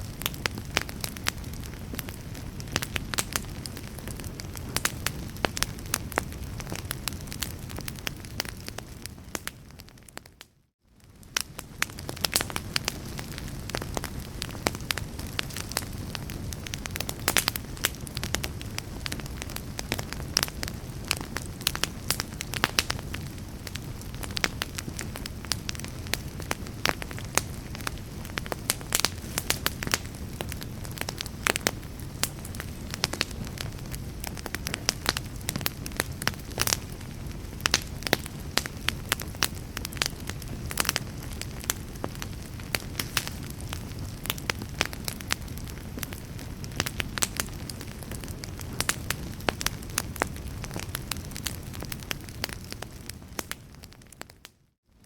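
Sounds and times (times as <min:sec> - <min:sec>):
wood fire crackling and popping: 0:00.0 - 0:54.5.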